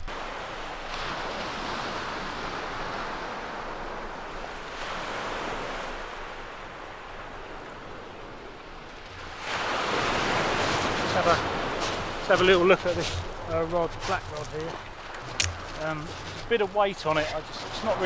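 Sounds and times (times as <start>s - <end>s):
waves washing onto shingle: 0.0s - 18.0s.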